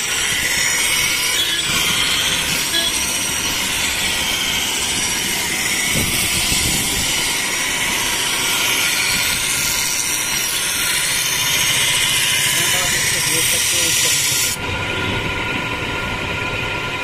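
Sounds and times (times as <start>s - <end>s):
blade grinding on grinding wheel: 0.0s - 14.6s.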